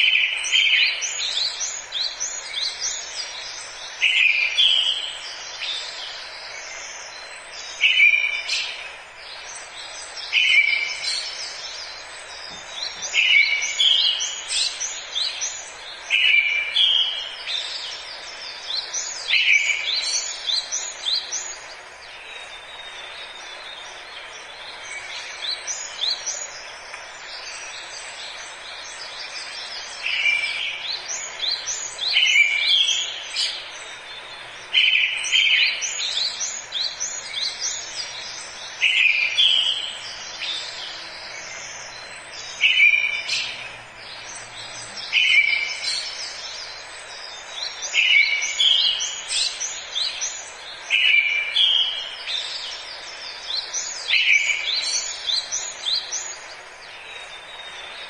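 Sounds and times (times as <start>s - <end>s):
birds chirping: 0.0s - 58.0s
forest background hiss: 0.0s - 58.0s.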